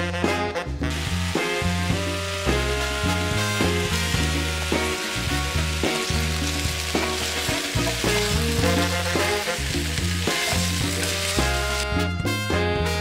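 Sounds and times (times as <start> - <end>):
instrumental music with bass line: 0.0 - 13.0
vegetables sizzling in a pot: 1.0 - 12.1.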